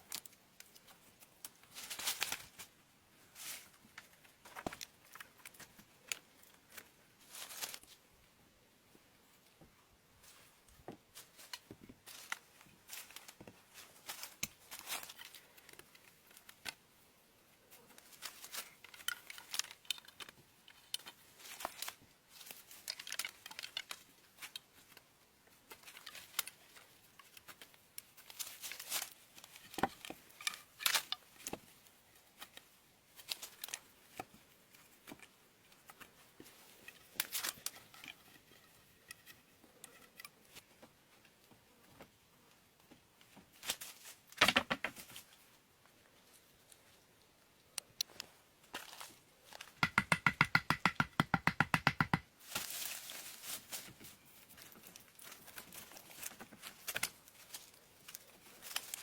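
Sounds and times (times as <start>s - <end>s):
crinkling and scraping: 0.0s - 8.0s, 10.2s - 16.9s, 17.6s - 42.2s, 47.8s - 49.8s, 52.4s - 59.0s.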